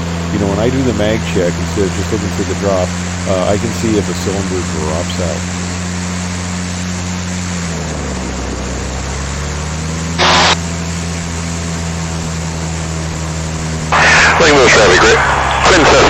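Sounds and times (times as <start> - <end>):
aircraft piston engines droning: 0.0 - 16.0.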